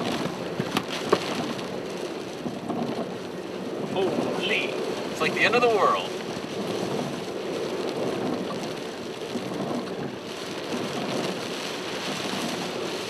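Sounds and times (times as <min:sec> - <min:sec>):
road noise: 0:00.0 - 0:13.0
wind and rain around car: 0:00.0 - 0:13.0.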